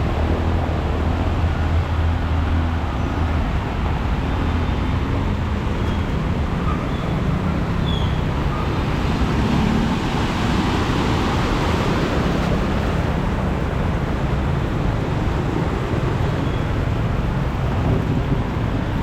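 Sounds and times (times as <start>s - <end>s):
heavy rain: 0.0s - 19.0s
passing engines rumbling: 0.0s - 19.0s.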